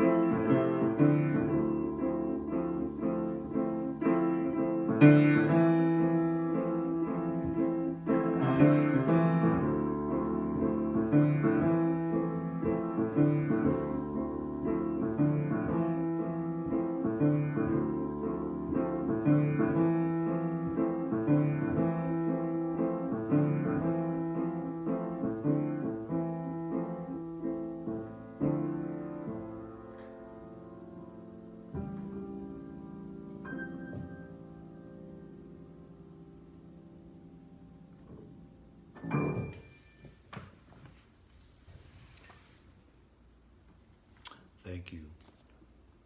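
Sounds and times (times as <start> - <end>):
solo piano improvising: 0.0 - 40.4.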